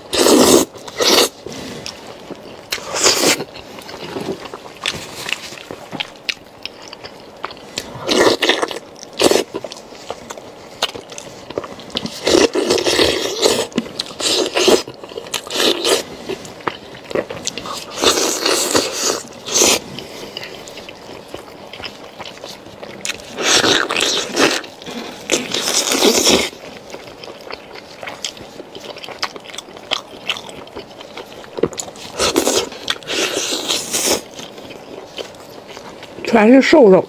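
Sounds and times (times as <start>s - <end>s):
chewing: 0.0s - 36.4s.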